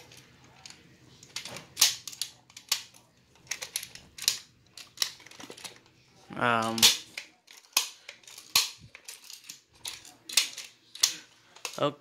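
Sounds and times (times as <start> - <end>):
plastic toy clicks and clacks: 0.0 - 5.9, 6.6 - 11.9.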